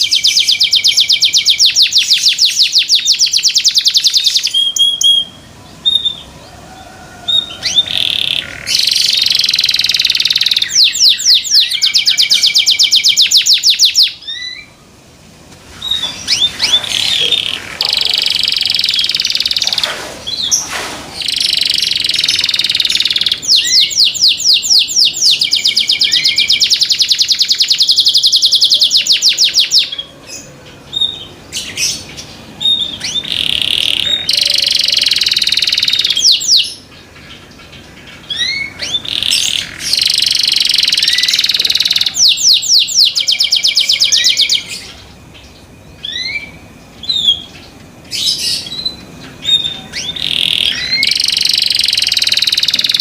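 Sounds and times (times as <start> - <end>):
canary singing with fast trills: 0.0 - 6.6, 7.3 - 15.0, 15.7 - 53.0.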